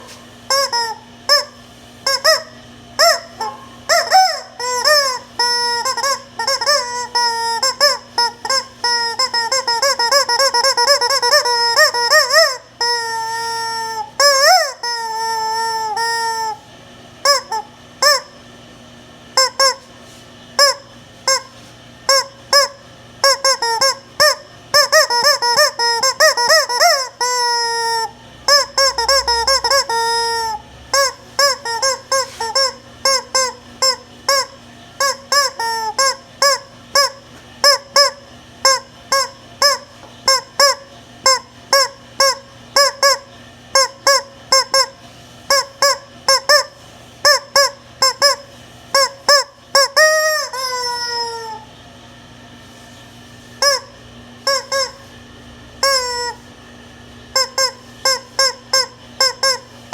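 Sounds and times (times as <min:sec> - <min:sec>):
squeaky rubber toy chicken: 0:00.0 - 0:16.6, 0:17.2 - 0:18.4, 0:19.4 - 0:19.9, 0:20.6 - 0:51.7, 0:53.6 - 0:55.1, 0:55.8 - 0:56.5, 0:57.3 - 0:59.9.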